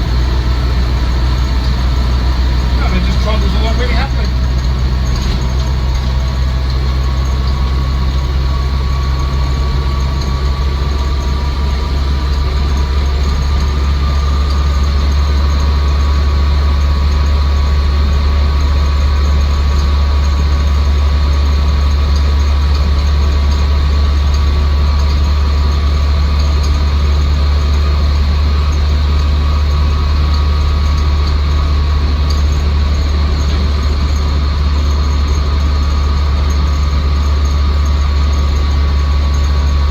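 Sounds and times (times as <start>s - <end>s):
engine drone from the cab: 0.0s - 39.9s
thin high drivetrain whine: 0.0s - 39.9s.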